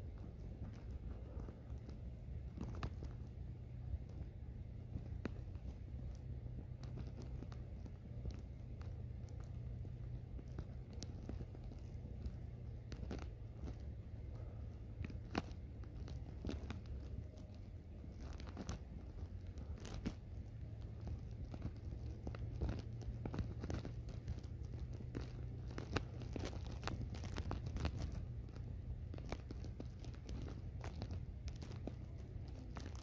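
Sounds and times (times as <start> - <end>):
low steady rumble: 0.0 - 33.0
spider scraping gritty soil: 0.0 - 33.0.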